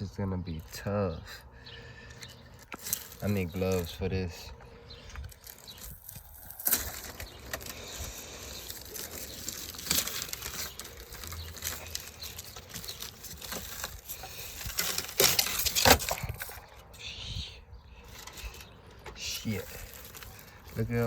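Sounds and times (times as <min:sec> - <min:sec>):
material crinkling and scraping: 0:02.1 - 0:17.0, 0:18.0 - 0:21.0.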